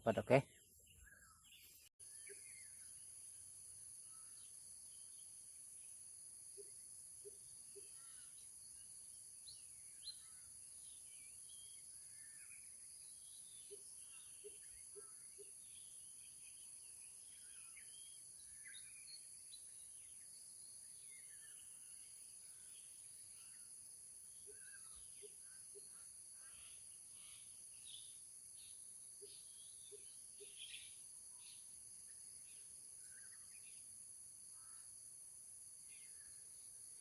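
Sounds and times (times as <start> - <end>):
bird chirps: 0.0 - 35.0.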